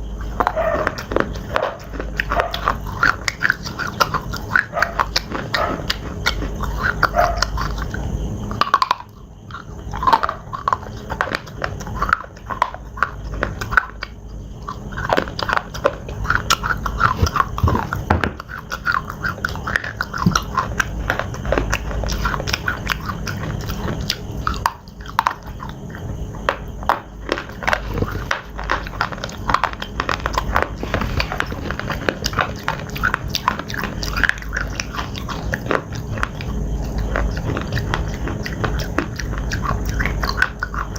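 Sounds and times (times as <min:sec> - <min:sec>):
crunching and chewing slate: 0:00.0 - 0:40.9.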